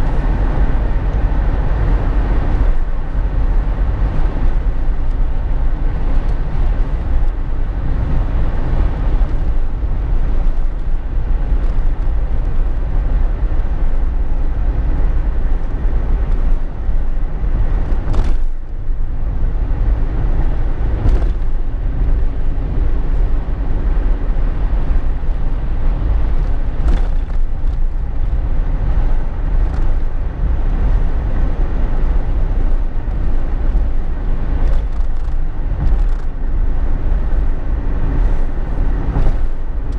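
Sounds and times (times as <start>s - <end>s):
car driving cabin rumble: 0.0s - 39.9s.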